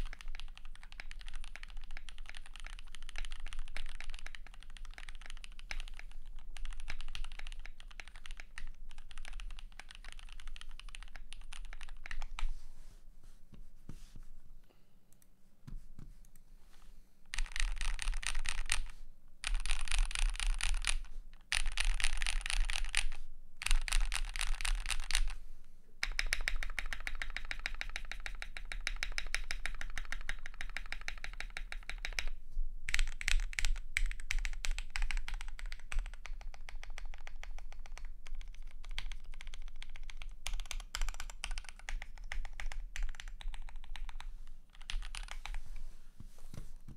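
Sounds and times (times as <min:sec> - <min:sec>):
fast typing on mechanical keyboard: 0:00.0 - 0:12.4, 0:17.3 - 0:25.4, 0:26.0 - 0:32.3, 0:32.9 - 0:45.6.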